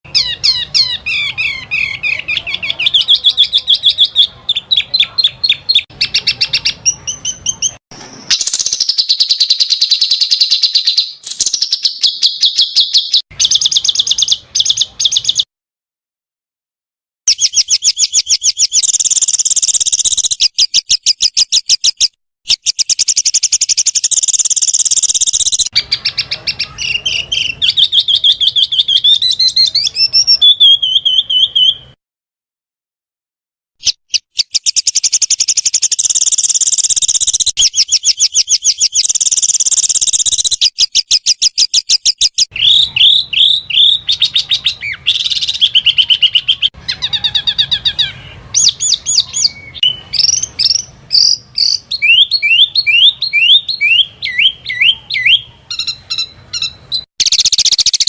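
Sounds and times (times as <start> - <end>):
songbirds trilling: 0.1 - 15.5, 17.3 - 31.9, 34.4 - 58.0.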